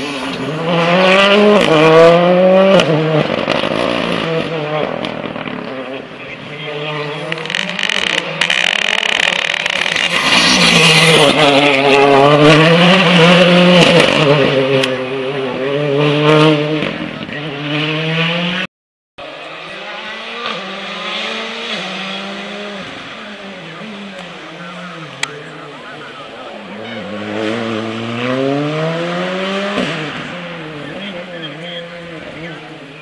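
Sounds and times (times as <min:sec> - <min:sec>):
rally car engine at full throttle: 0:00.0 - 0:33.0
second rally car approaching: 0:00.0 - 0:33.0.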